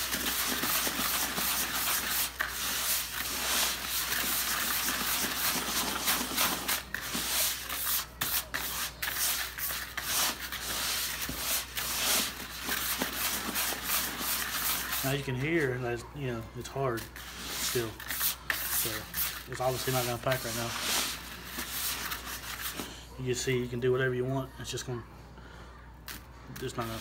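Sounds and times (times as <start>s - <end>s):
hand mixing bait in plastic bucket: 0.0s - 15.8s, 16.7s - 22.8s.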